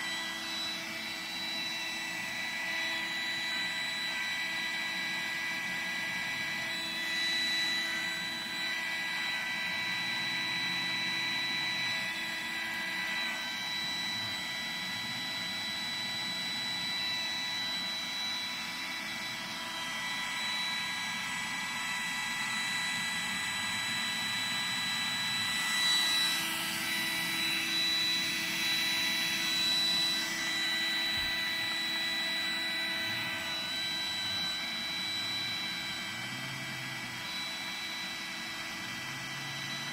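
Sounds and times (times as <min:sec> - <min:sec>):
robot vacuum whining: 0:00.0 - 0:39.9.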